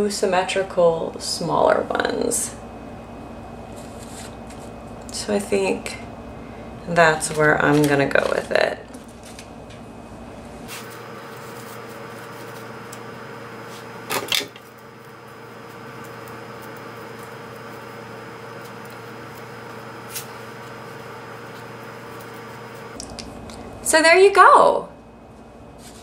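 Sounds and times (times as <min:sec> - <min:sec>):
steady room hum: 0:00.0 - 0:26.0.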